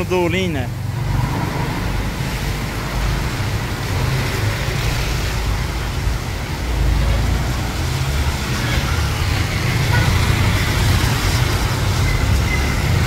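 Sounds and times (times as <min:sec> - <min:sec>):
traffic engines rumbling: 0:00.0 - 0:13.0
rain and wet tyres hissing: 0:00.9 - 0:13.0.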